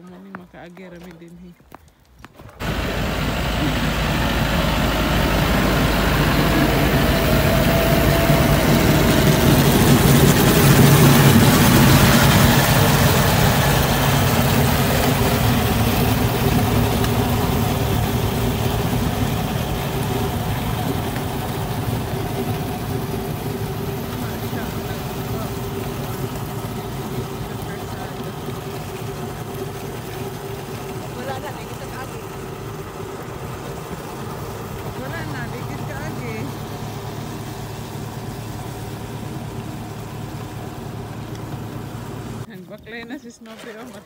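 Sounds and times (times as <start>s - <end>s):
tractor engine running: 0.0s - 44.0s
snow blower throwing snow: 2.3s - 42.5s, 43.2s - 44.0s.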